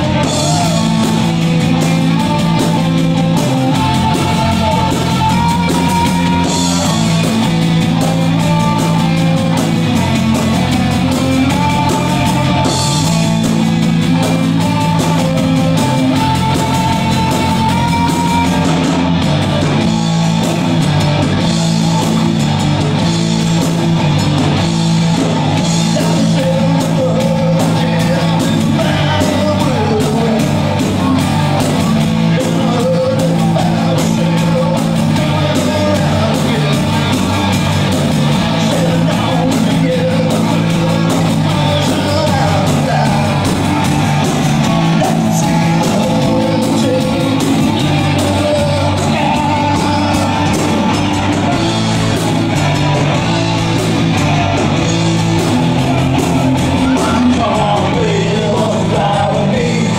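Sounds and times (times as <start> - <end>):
drum beat: 0.0 - 59.9
rock band playing: 0.0 - 59.9.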